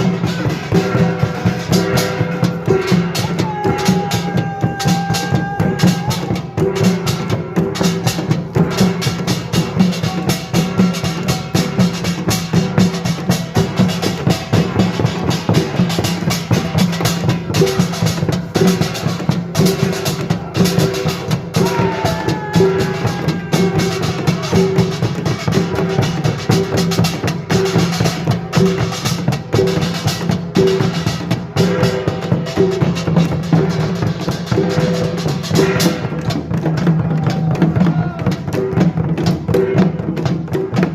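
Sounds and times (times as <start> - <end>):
drum and gong strikes: 0.0 - 40.9.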